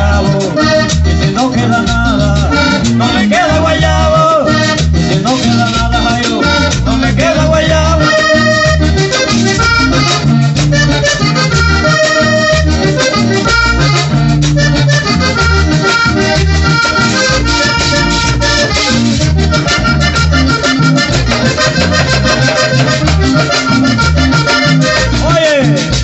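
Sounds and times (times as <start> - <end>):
accordion playing: 0.0 - 26.0
pulsing bass notes: 0.0 - 26.0
rhythmic percussion: 0.0 - 26.0.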